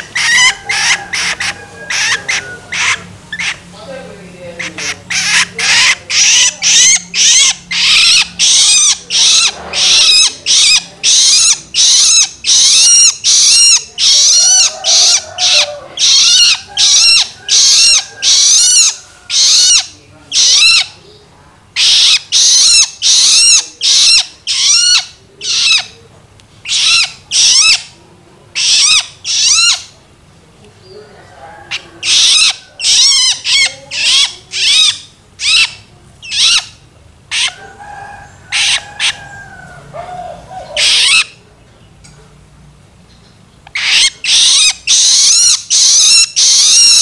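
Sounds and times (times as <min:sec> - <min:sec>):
juvenile shrike harsh begging calls: 0:00.0 - 0:21.0, 0:21.8 - 0:26.0, 0:26.6 - 0:30.0, 0:31.2 - 0:41.4, 0:43.6 - 0:47.0.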